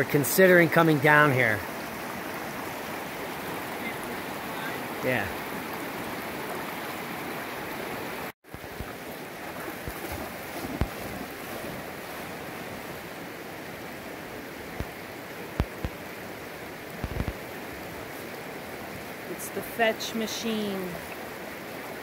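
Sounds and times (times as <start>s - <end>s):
river water flowing over rocks: 0.0s - 22.0s.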